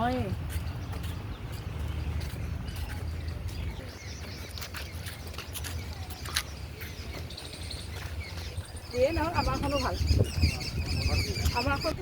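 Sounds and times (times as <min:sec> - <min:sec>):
bird chirps: 0:00.6 - 0:12.0.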